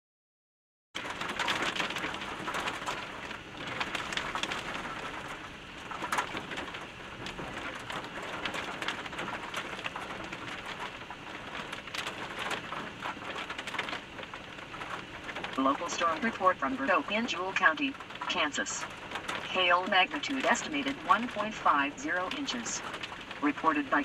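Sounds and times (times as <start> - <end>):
raindrops ticking near microphone: 1.0 - 24.0
steady rain: 1.0 - 24.0.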